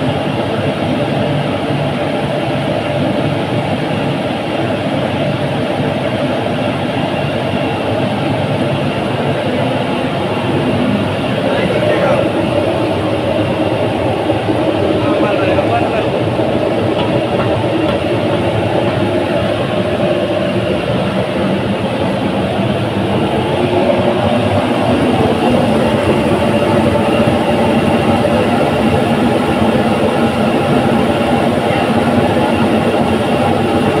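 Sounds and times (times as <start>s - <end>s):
furnace mechanical noise: 0.0s - 34.0s.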